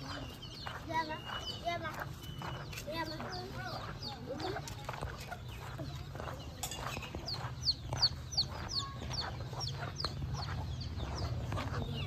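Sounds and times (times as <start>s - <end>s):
chickens chirping: 0.0s - 12.0s.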